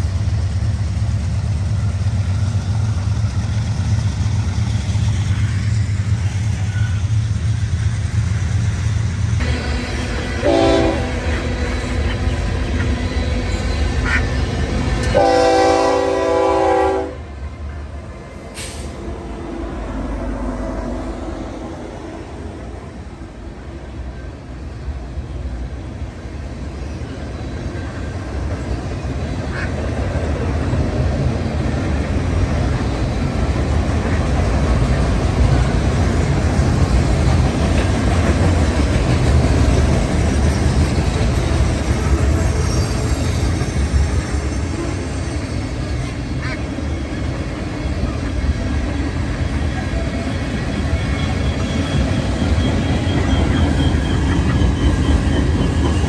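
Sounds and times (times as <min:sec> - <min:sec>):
train wheels clattering on rails: 0:00.0 - 0:16.6, 0:26.6 - 0:56.0
diesel locomotive engines: 0:00.0 - 0:56.0.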